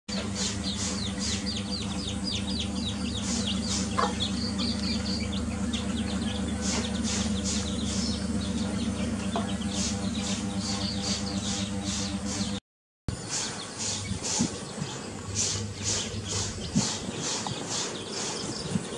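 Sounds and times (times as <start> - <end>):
chicks peeping: 0.1 - 12.6, 13.2 - 18.9
steady low buzz: 0.1 - 18.7.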